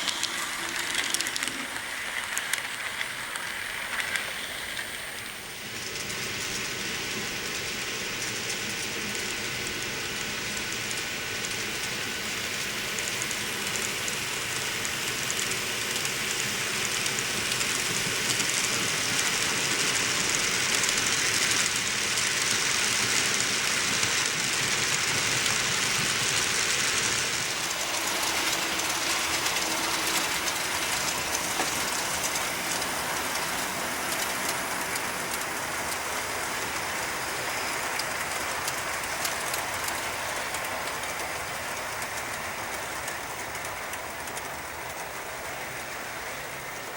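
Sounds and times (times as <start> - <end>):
model train wheels clicking on rails: 0.0 - 46.9.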